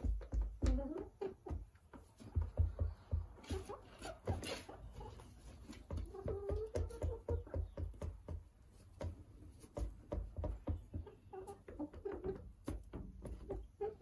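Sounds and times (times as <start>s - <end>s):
hens clucking softly: 0.0s - 14.0s
hens pecking rubber boots: 0.0s - 14.0s.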